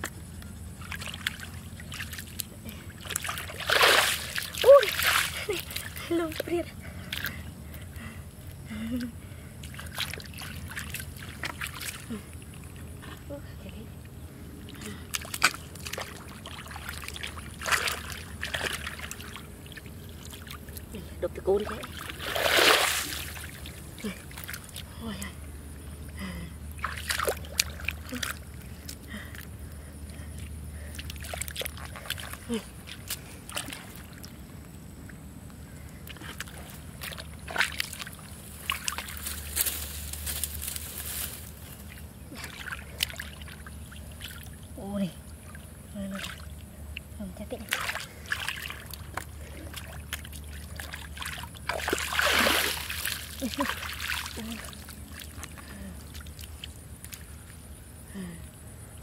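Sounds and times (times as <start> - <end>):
splashing in muddy water: 0.0 - 13.8, 14.6 - 25.3, 26.2 - 34.4, 35.8 - 58.0.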